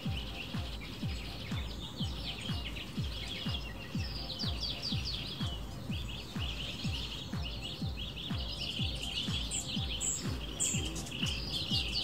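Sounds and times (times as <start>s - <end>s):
background music with beat: 0.0s - 12.0s
small birds chirping: 0.0s - 12.0s.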